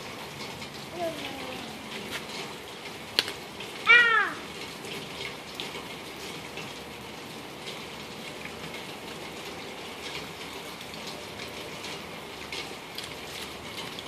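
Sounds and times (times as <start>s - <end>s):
rain on wet ground: 0.0s - 14.0s.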